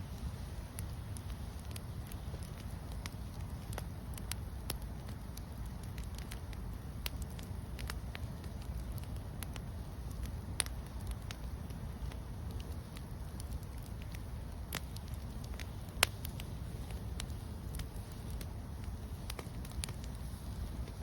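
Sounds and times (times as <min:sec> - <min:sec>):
campfire crackling and popping: 0:00.0 - 0:21.0
low rumble of fire: 0:00.0 - 0:21.0.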